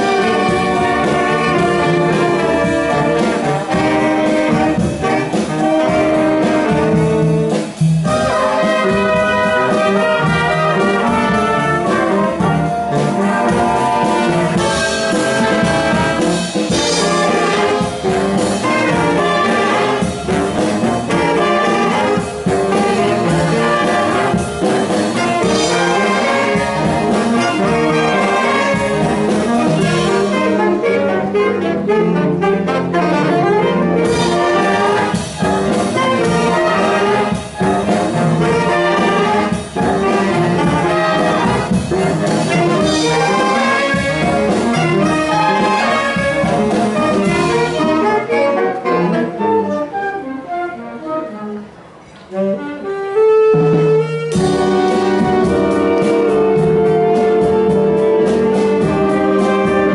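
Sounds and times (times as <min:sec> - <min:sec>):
trombones: 0:00.0 - 0:59.9
wind band playing live: 0:00.0 - 0:59.9.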